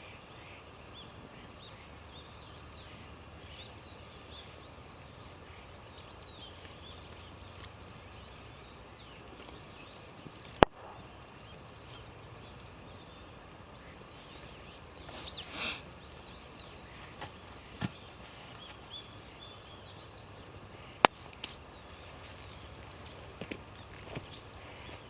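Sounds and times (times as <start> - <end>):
outdoor background noise: 0.0 - 25.0
small birds chirping: 0.0 - 25.0.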